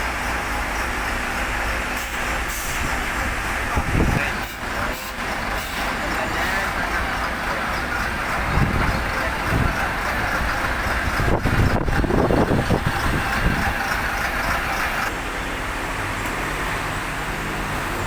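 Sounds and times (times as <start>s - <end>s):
heavy machinery running: 0.0s - 18.0s.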